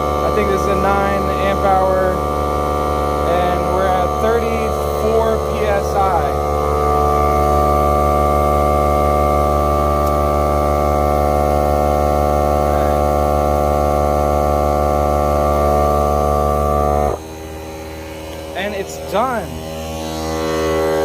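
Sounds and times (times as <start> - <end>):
tire inflators droning: 0.0 - 21.0.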